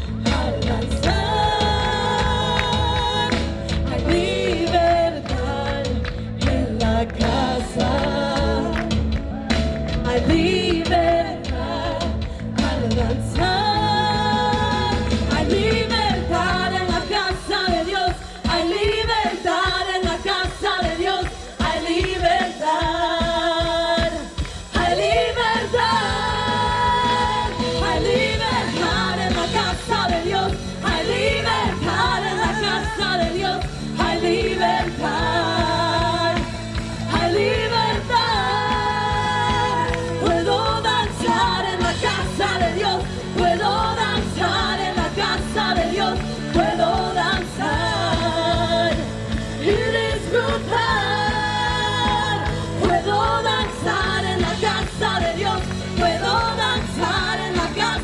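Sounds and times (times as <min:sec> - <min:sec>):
low bass: 0:00.0 - 0:17.1, 0:24.8 - 0:58.0
band playing: 0:00.0 - 0:20.8, 0:21.6 - 0:58.0
gospel singing: 0:00.0 - 0:58.0.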